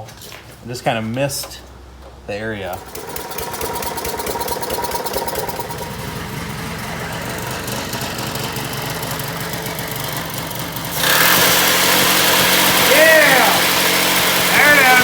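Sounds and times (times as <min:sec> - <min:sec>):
lawn mower engine running: 0:02.7 - 0:15.0.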